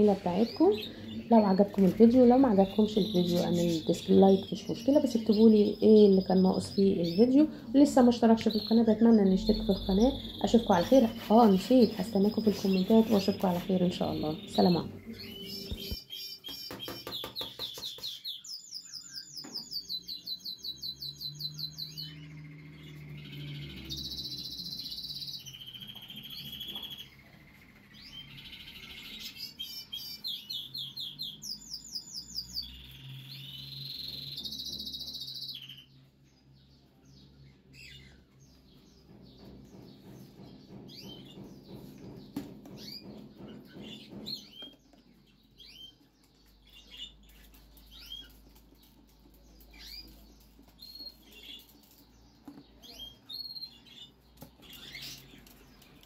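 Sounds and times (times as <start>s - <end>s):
pet birds chirping and trilling: 0.0s - 56.0s.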